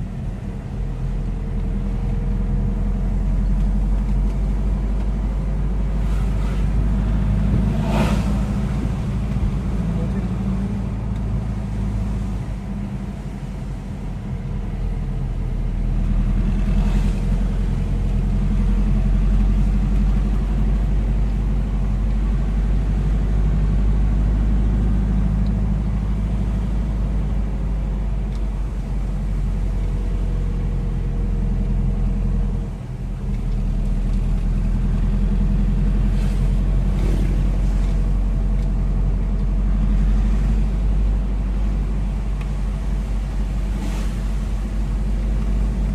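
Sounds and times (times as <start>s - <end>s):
vehicle engine drone: 0.0s - 45.9s.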